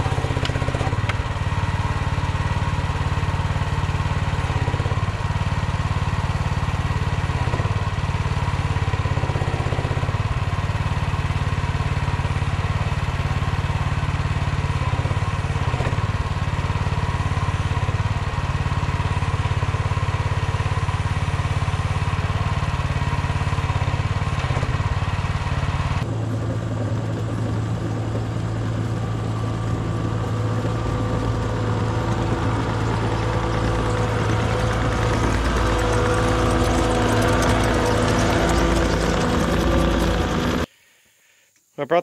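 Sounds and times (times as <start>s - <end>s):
low engine hum: 0.0s - 40.7s
small excavator engine running: 0.0s - 40.7s.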